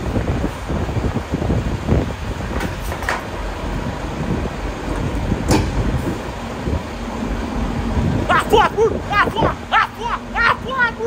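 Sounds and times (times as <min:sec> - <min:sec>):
wind rumble: 0:00.0 - 0:11.0
trucks idling: 0:01.7 - 0:11.0.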